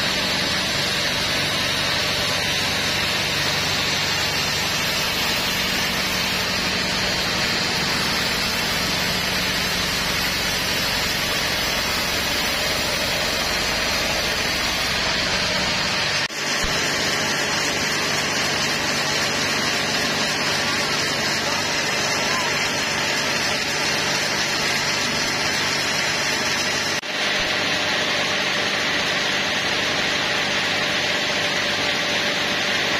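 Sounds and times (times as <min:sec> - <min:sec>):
low machine hum: 0:00.0 - 0:32.8
band saw cutting log: 0:00.0 - 0:32.9.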